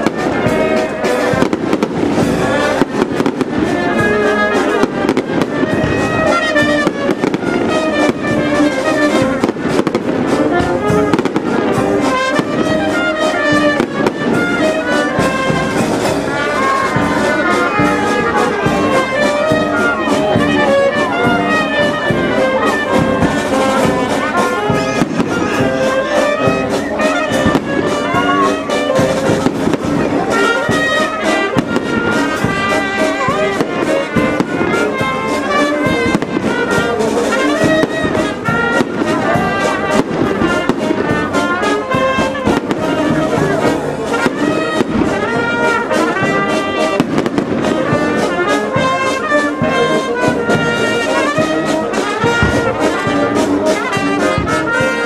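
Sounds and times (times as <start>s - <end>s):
brass band music: 0.0s - 55.0s
fireworks crackling and banging: 0.0s - 55.0s.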